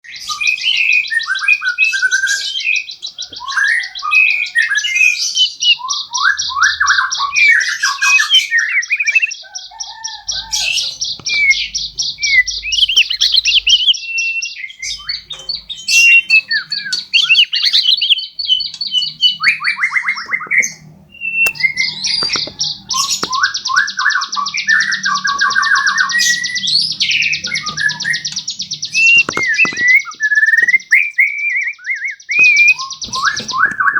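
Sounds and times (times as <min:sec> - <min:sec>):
songbird trilling and chirping: 0:00.1 - 0:33.9.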